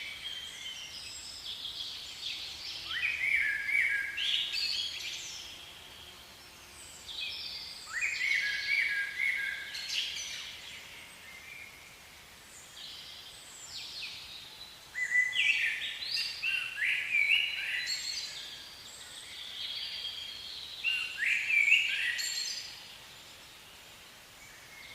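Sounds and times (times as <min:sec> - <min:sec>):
bird chirping: 0:00.0 - 0:11.8, 0:12.5 - 0:23.8.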